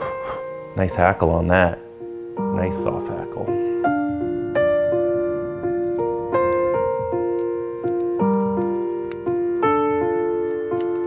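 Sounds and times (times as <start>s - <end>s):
solo piano music: 0.1s - 11.0s.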